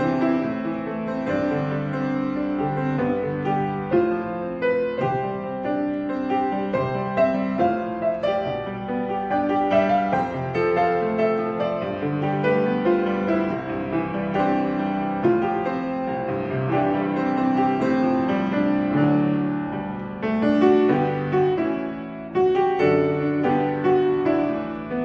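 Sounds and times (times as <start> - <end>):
solo piano hymn: 0.0 - 25.0.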